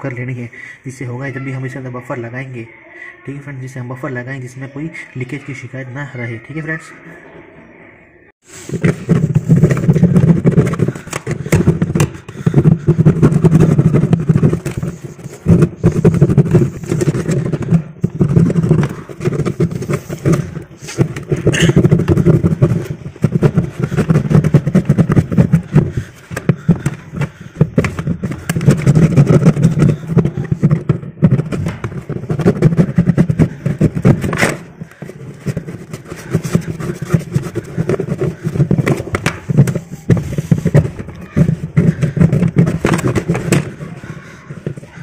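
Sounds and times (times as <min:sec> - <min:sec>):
scraping on plastic tub: 0:08.4 - 0:45.0.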